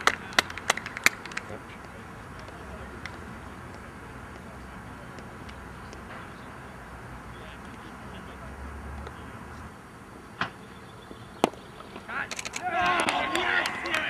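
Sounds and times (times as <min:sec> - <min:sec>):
distant voices: 0:00.0 - 0:14.0.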